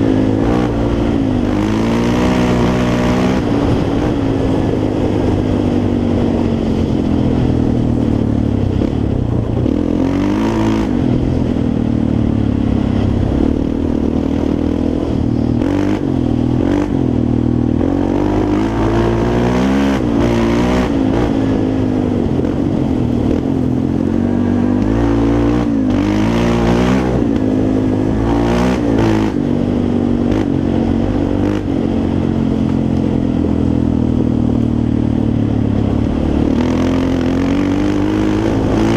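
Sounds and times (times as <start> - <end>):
quad bike engine revving: 0.0 - 32.8, 35.4 - 38.9.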